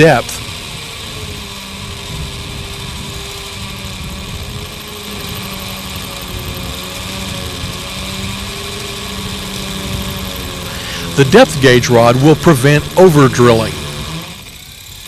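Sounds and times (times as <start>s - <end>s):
rotary hammer drill boring masonry: 0.0s - 15.0s.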